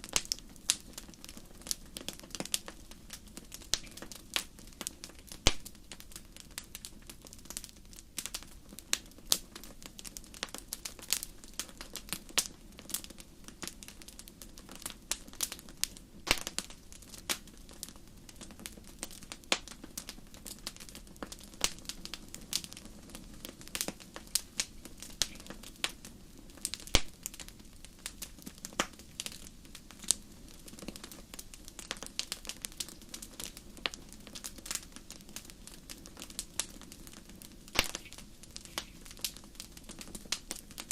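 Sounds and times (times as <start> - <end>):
fire crackling and popping: 0.0 - 40.9
low rush of fire: 0.0 - 40.9.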